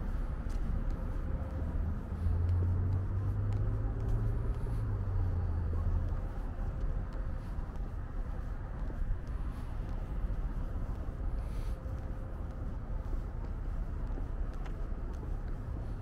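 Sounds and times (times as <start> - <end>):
city background noise: 0.0 - 16.0
vehicle engine rumble: 0.0 - 16.0.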